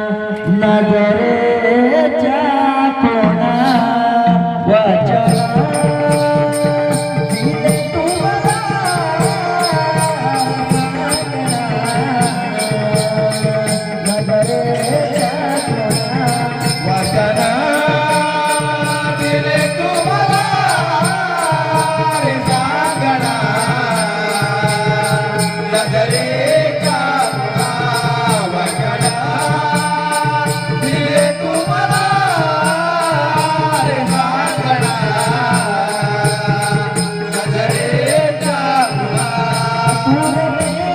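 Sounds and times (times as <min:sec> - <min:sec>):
person singing: 0:00.0 - 0:40.9
instrumental accompaniment with beat: 0:03.0 - 0:40.9.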